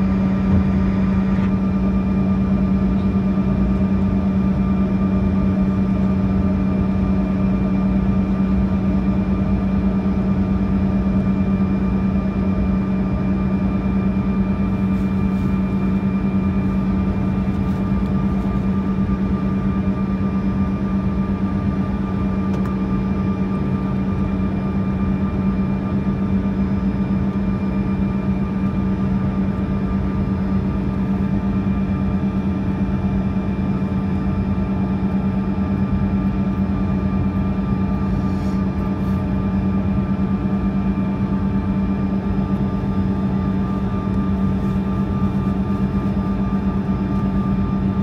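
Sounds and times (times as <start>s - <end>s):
aircraft cabin drone: 0.0s - 48.0s.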